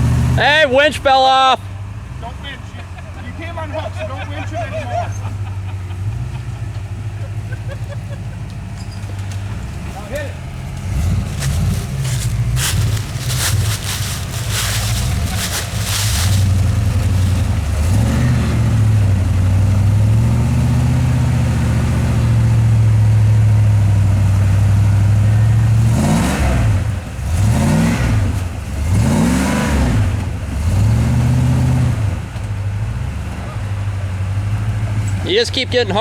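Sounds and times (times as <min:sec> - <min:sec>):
engine revving under load: 0:05.2 - 0:35.3.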